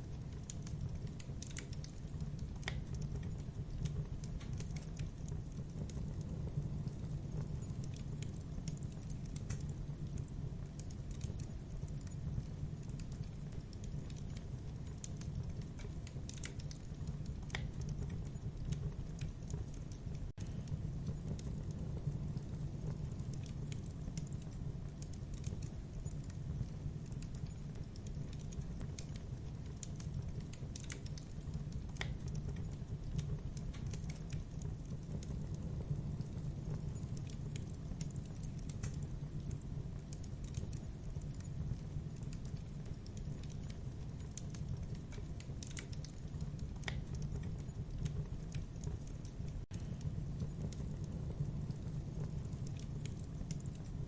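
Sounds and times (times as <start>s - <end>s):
campfire crackling: 0.0s - 54.0s
low sound of fire: 0.0s - 54.0s.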